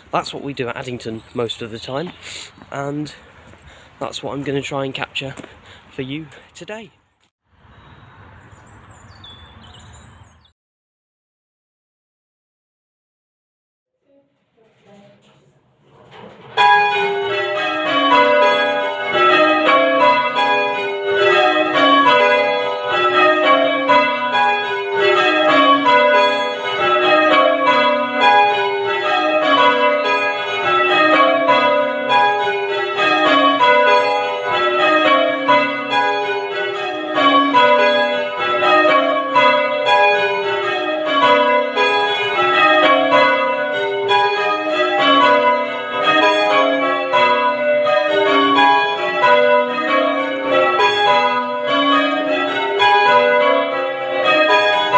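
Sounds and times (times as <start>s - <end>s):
church bells change ringing: 0.0s - 6.8s, 16.0s - 54.9s.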